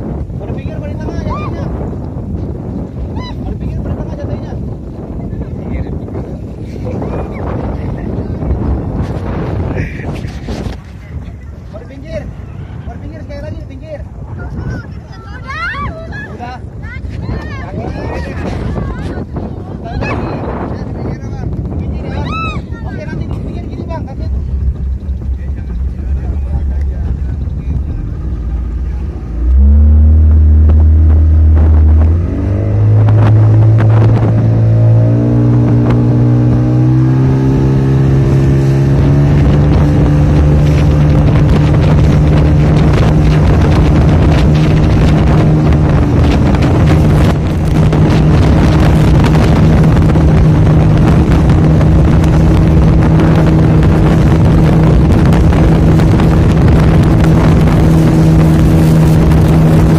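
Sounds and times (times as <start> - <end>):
motorboat engine: 0.0 - 59.9
wind buffeting microphone: 0.0 - 59.9.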